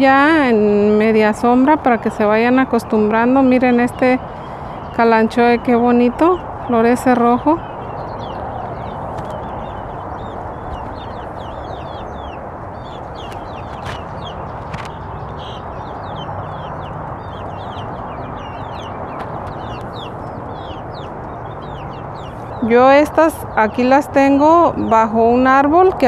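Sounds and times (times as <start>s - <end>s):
small birds chirping: 0.0s - 26.0s
steady rushing noise: 0.0s - 26.0s
hens clucking: 1.6s - 23.0s.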